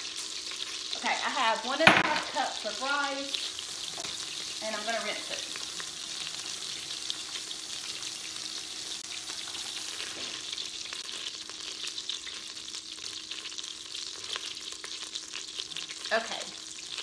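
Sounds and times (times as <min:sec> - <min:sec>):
butter sizzling in a pot: 0:00.0 - 0:17.0.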